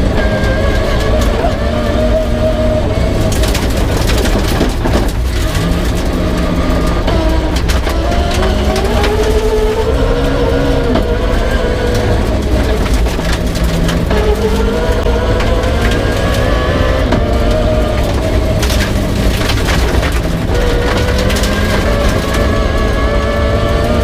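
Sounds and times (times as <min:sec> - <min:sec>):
car knocks and rattles: 0:00.0 - 0:24.0
rally car engine running hard: 0:00.0 - 0:24.0.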